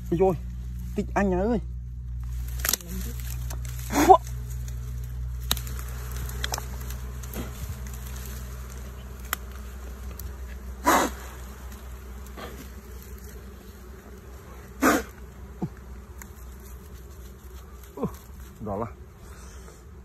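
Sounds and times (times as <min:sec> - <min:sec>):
dry grass rustling: 0:00.0 - 0:18.9
bees buzzing: 0:00.0 - 0:20.0.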